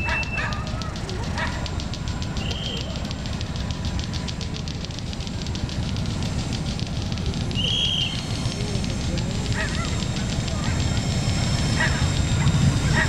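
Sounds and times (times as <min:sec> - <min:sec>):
trains rumbling over tracks: 0:00.0 - 0:13.0.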